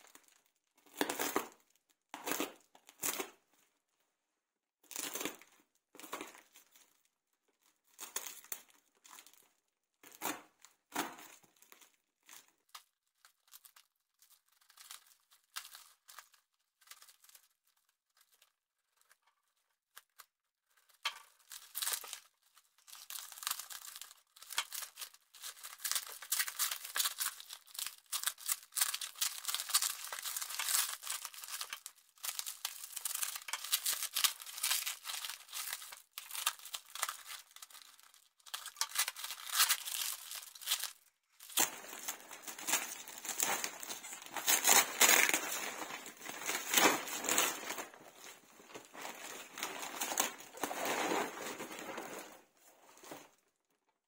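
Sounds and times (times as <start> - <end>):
plastic wrap crinkling and tearing: 0.0 - 3.7, 4.8 - 53.6.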